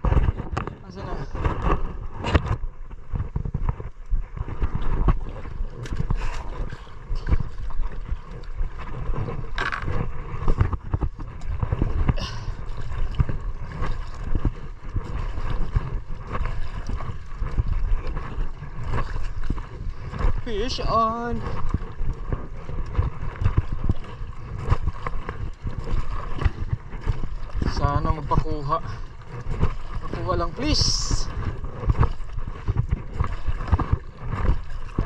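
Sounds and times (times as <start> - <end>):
water sloshing against boat hull: 0.0 - 35.0
wind rumble on microphone: 0.0 - 35.0.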